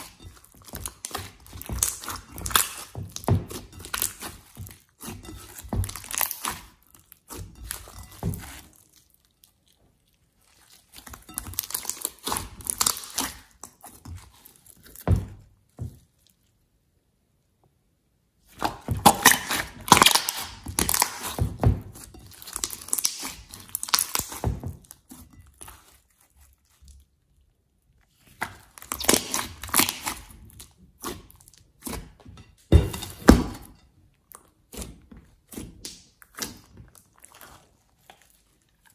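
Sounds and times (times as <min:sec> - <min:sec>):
slime squishing and crackling: 0:00.0 - 0:16.4, 0:18.5 - 0:38.9.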